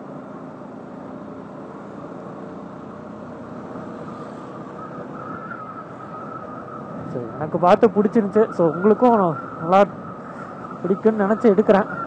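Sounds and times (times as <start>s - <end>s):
motorcycle engine cruising: 0.0s - 12.0s
thin steady whine: 0.0s - 12.0s
wind and road noise: 0.0s - 12.0s.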